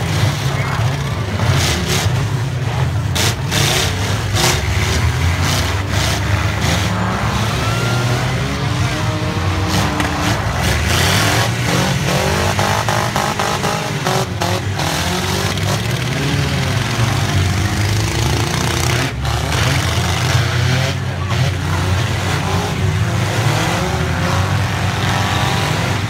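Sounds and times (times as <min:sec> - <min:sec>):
derby car engines revving: 0:00.0 - 0:26.0.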